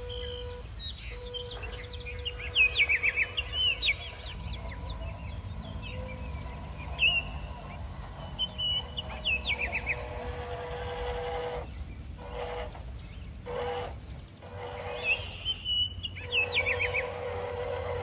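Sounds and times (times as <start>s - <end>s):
constant low rumble: 0.0s - 18.0s
faint steady hum: 0.0s - 18.0s
small bird chirping: 0.0s - 18.0s.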